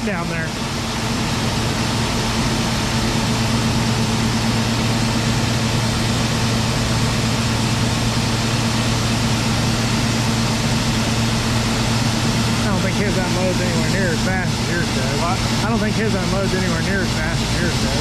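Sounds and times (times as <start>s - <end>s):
farm machinery engine droning: 0.0s - 18.0s.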